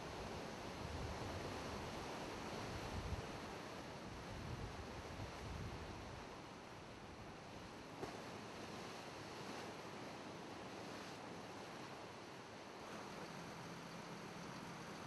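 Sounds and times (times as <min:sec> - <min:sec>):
choppy sea: 0:00.0 - 0:15.0
wind: 0:00.0 - 0:15.0.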